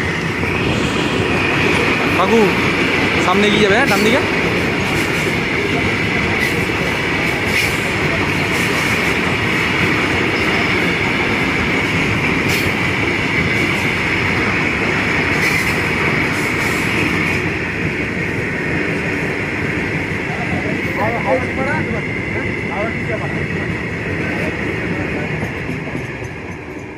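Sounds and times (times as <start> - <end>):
train wheels clattering on rails: 0.0 - 26.9.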